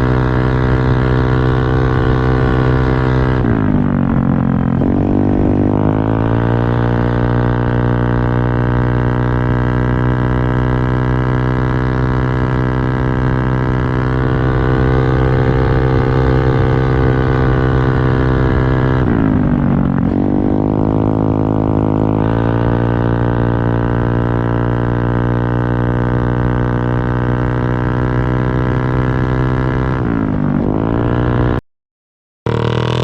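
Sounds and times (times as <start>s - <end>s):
motorcycle engine droning: 0.0s - 31.6s, 32.5s - 33.0s.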